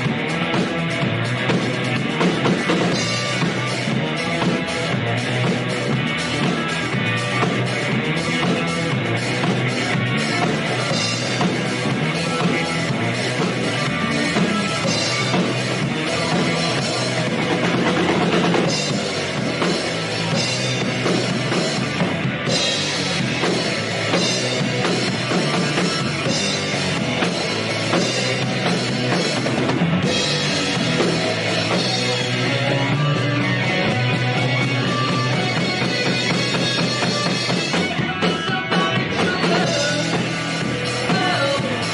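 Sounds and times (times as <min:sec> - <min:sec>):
drum kit beat: 0:00.0 - 0:41.9
electric guitar: 0:00.0 - 0:41.9
rock band playing live: 0:00.0 - 0:41.9.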